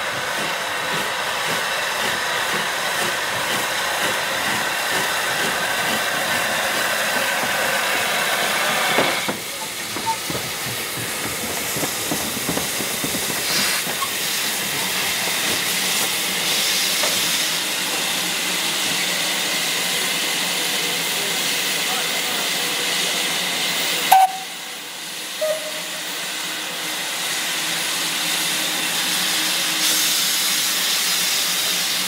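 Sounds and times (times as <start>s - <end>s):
steam hissing: 0.0s - 32.0s.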